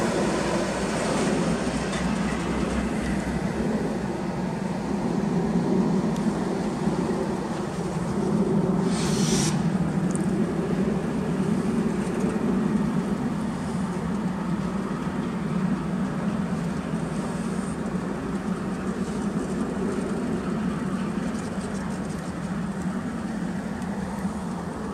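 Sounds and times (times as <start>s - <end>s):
freight train wheels on rails: 0.0s - 24.9s.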